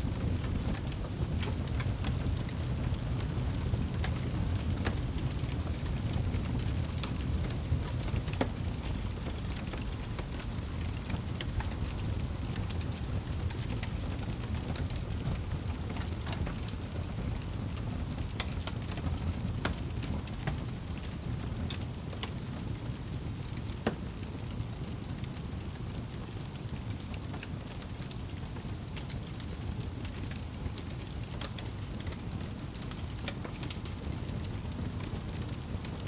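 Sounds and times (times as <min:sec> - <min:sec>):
wood fire burning: 0:00.0 - 0:36.0.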